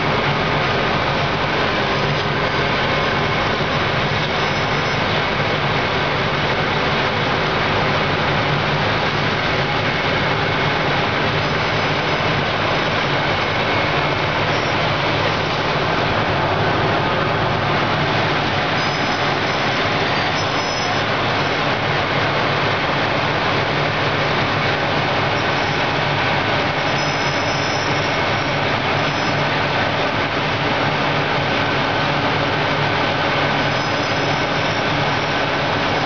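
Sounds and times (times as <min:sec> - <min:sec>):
road milling machine running: 0:00.0 - 0:36.0.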